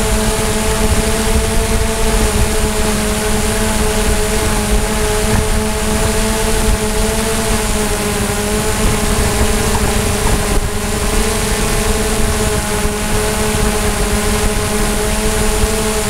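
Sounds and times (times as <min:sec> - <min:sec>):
wind noise: 0:00.0 - 0:16.0
drone propellers whining: 0:00.2 - 0:16.0.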